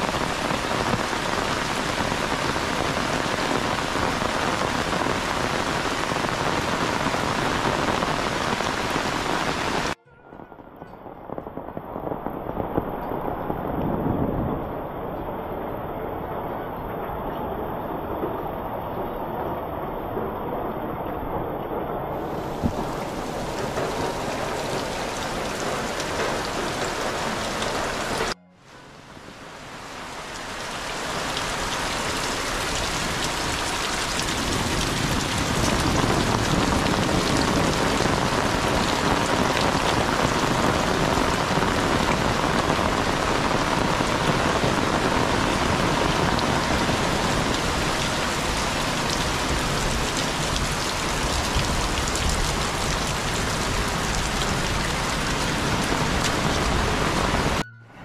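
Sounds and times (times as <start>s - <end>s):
heavy rain falling: 0.0s - 57.6s.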